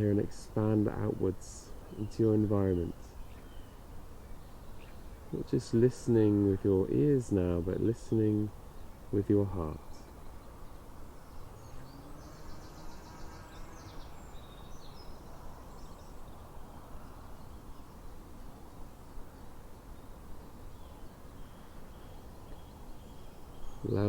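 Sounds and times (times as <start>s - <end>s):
birds chirping: 0.0s - 24.0s
low background hum: 0.0s - 24.0s.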